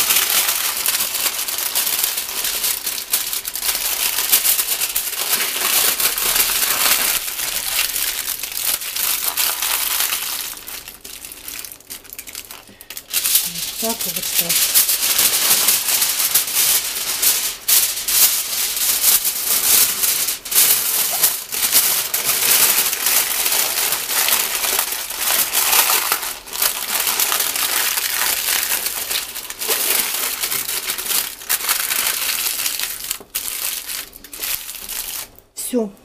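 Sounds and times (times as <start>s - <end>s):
aluminium foil crinkling: 0.0s - 35.5s.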